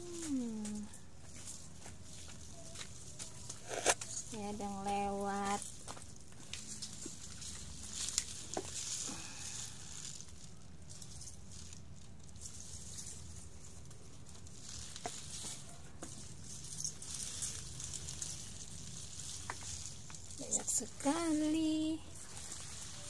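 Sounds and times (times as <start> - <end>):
leaves rustling and crackling: 0.0 - 23.0.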